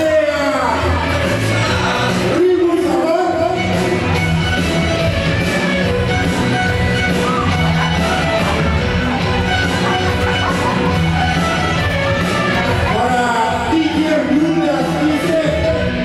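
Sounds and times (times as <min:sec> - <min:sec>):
dance music with singing: 0:00.0 - 0:16.0.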